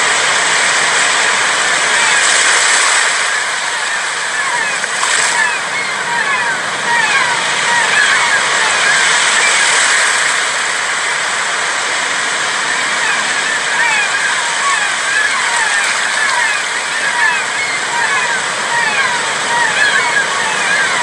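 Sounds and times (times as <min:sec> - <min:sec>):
sea waves on a sandy beach: 0:00.0 - 0:21.0.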